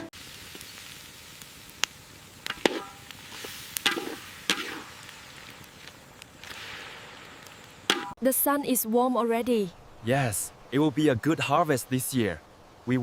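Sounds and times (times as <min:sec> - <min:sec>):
faint steady background noise: 0:00.2 - 0:13.0.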